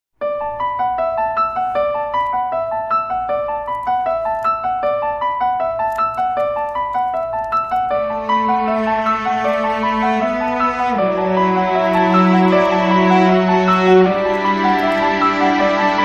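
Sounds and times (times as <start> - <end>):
held chords: 0.2 - 16.0
keyboard melody: 0.2 - 16.0.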